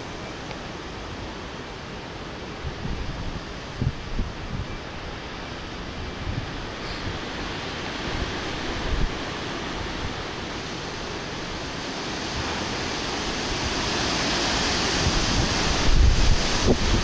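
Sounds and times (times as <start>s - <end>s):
strong wind rushing through trees: 0.0s - 17.0s
wind buffeting microphone: 2.6s - 5.2s, 5.8s - 17.0s.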